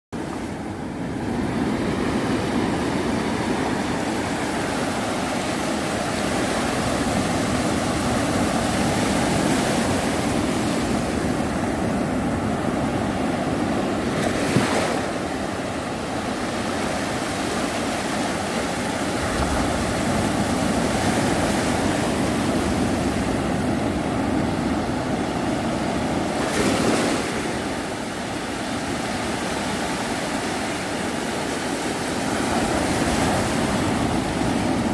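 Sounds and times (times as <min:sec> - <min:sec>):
sea waves breaking on beach: 0:00.2 - 0:34.9.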